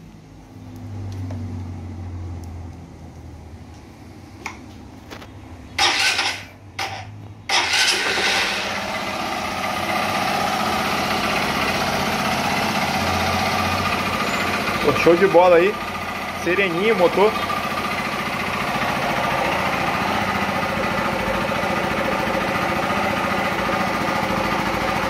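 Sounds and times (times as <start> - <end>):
motorcycle engine starting and idling: 4.4 - 25.0.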